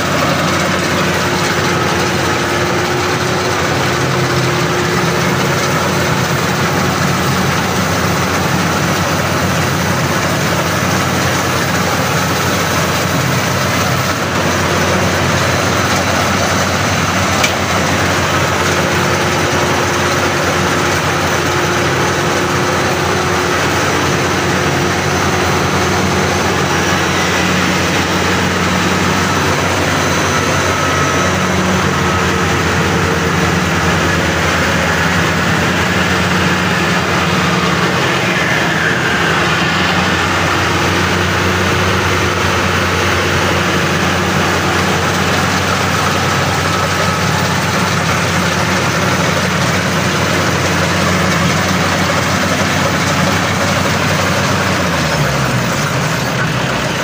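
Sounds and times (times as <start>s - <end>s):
combine harvester engine and machinery: 0.0s - 57.0s.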